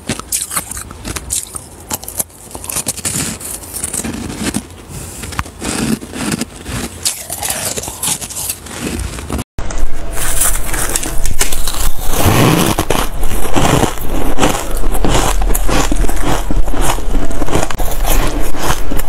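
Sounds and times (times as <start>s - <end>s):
crunching and chewing ice: 0.0s - 19.0s.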